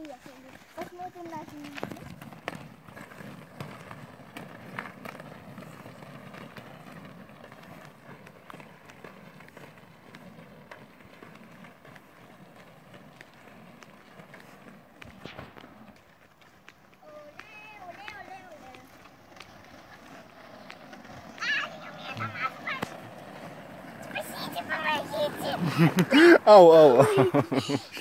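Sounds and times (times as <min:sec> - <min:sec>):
skate wheels rolling on asphalt: 0:00.0 - 0:28.0.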